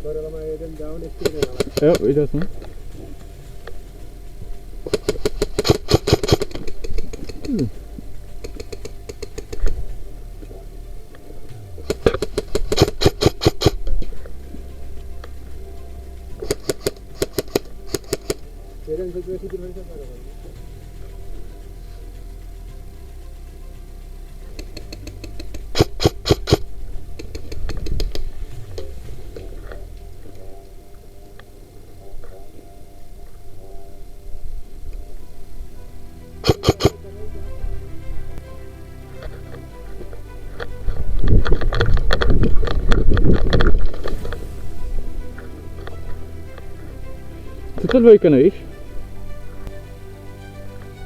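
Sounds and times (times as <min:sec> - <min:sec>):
gearbox motor whirring: 0:00.0 - 0:51.0.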